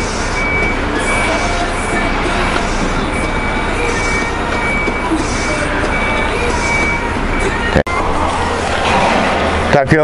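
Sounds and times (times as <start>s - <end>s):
reversing alarm beeping: 0.0s - 8.2s
diesel truck engine idling: 0.0s - 10.0s.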